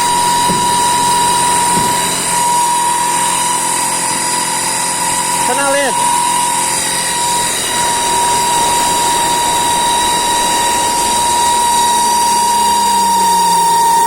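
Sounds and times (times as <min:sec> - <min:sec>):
car engine high-pitched whine: 0:00.0 - 0:14.0.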